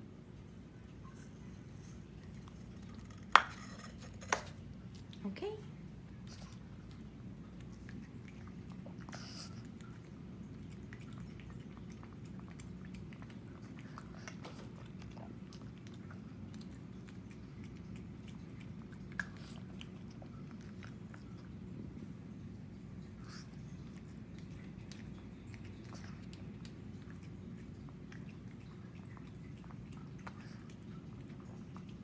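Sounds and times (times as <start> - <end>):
dog chewing and licking: 6.1 - 32.0.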